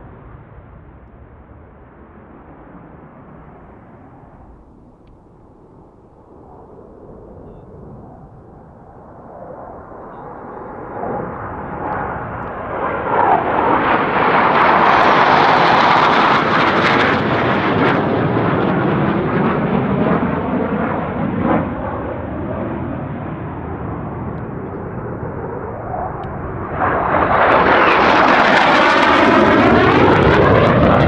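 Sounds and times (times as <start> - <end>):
jet aircraft flying past: 0.0 - 31.0.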